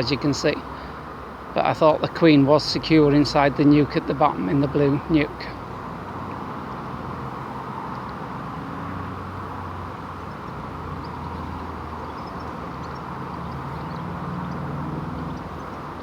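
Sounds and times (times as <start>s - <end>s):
honeybee swarm humming: 0.0s - 16.0s.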